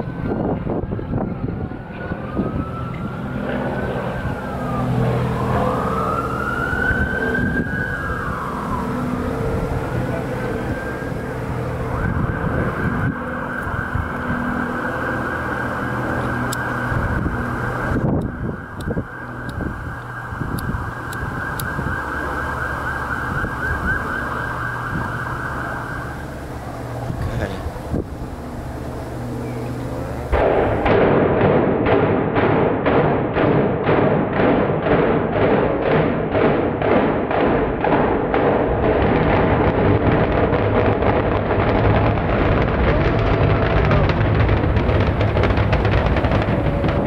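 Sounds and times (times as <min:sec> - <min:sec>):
siren wailing: 0:00.0 - 0:30.9, 0:37.7 - 0:47.0
steady low drone: 0:00.0 - 0:47.0
traffic rumble: 0:00.0 - 0:47.0
wind: 0:00.0 - 0:47.0.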